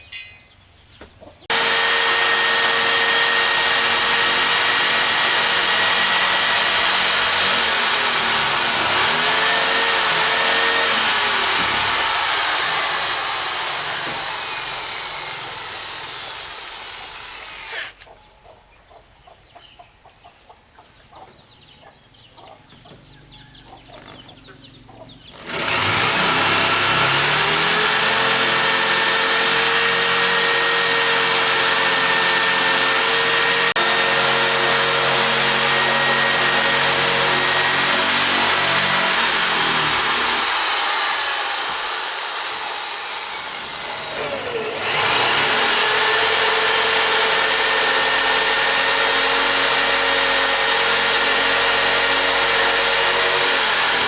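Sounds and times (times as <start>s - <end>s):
power tool motor whine: 1.5s - 18.1s, 25.4s - 54.0s.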